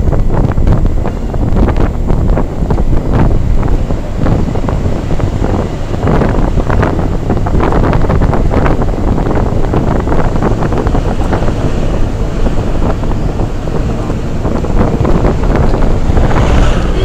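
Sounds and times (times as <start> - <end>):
bus engine and road noise: 0.0 - 17.0
wind buffeting microphone: 0.0 - 17.0.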